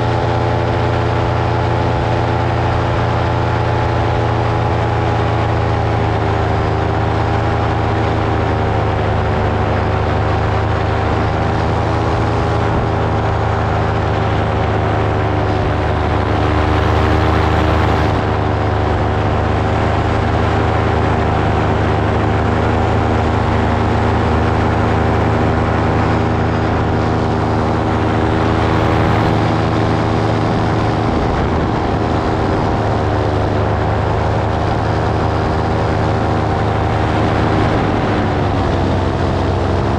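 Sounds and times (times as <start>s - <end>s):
drone motor and propellers humming: 0.0s - 39.9s.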